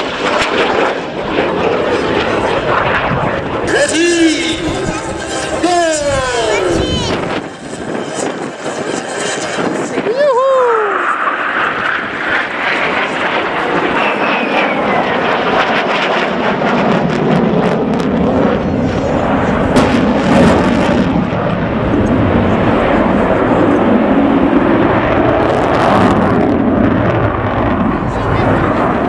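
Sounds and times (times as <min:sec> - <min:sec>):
jet engine rumbling overhead: 0:00.0 - 0:29.0.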